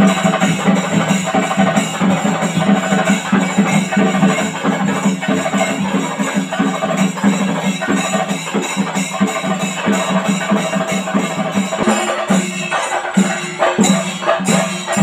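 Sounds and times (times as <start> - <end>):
drums and cymbals playing: 0.0 - 15.0.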